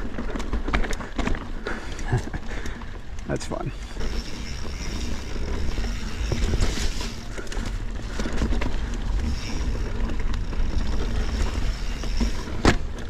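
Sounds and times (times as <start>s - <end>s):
bike rattling and knocking: 0.0s - 13.0s
bike tyres on dirt trail: 0.0s - 13.0s.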